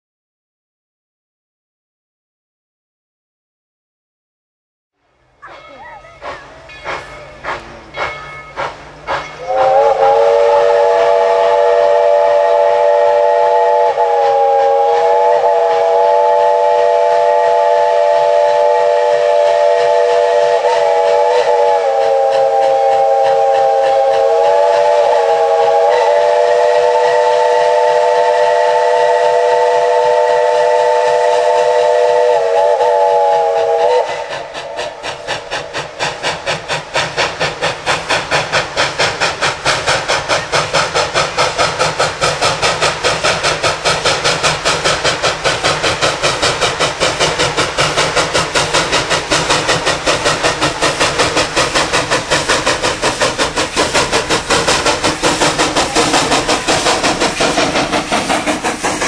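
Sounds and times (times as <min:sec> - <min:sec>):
steam locomotive whistle: 0:05.4 - 0:59.0
steam engine exhaust chuffing: 0:05.6 - 0:59.0.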